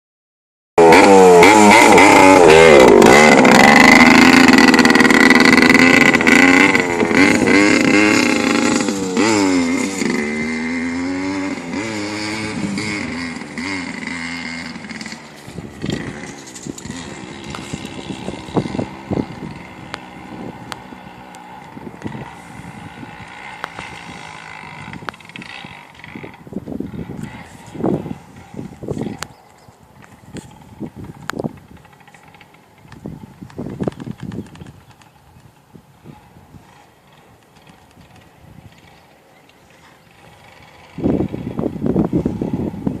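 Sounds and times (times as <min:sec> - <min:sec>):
dirt bike engine revving: 0:00.8 - 0:29.5, 0:30.1 - 0:34.1, 0:36.0 - 0:43.0.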